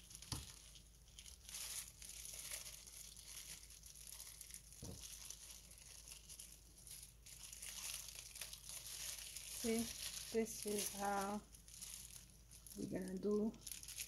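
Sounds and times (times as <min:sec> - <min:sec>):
plastic gloves crinkling: 0:00.0 - 0:14.0.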